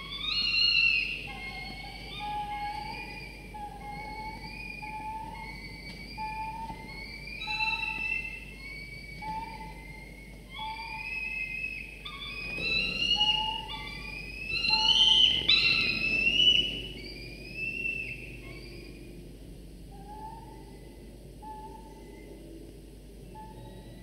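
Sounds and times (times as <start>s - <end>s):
falcon chicks whistling calls: 0.0s - 19.2s, 19.9s - 22.5s, 23.2s - 24.0s.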